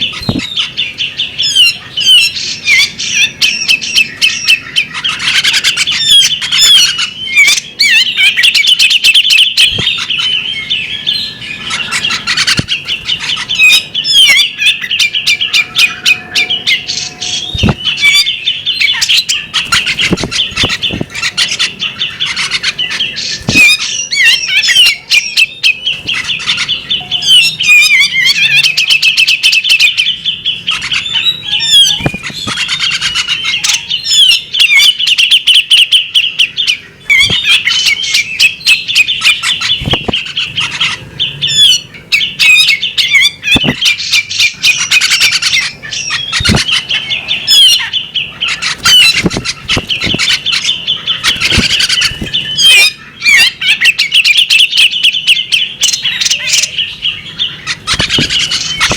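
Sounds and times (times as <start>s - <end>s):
bird singing warbling phrases: 0.0s - 58.9s.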